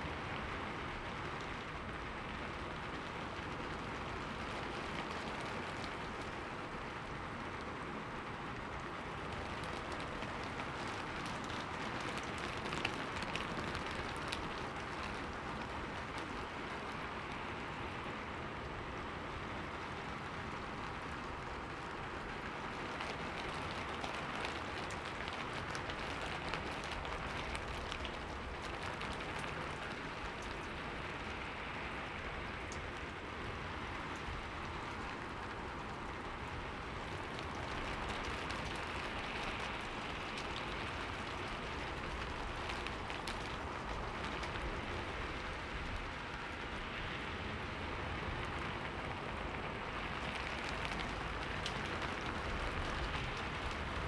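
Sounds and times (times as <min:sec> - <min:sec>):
rain pattering on window pane: 0:00.0 - 0:54.0.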